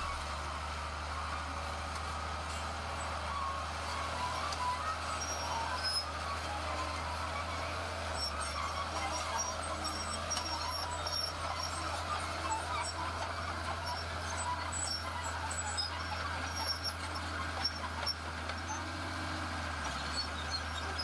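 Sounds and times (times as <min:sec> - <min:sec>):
heavy diesel machinery humming: 0:00.0 - 0:21.0.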